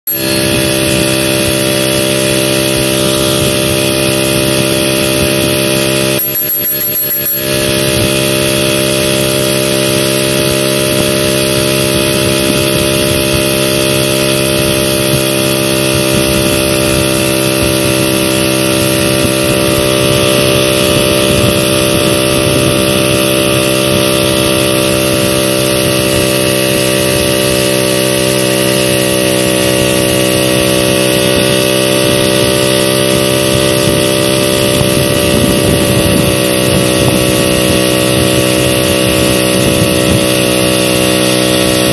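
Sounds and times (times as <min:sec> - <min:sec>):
moped engine running: 0:00.0 - 0:41.9.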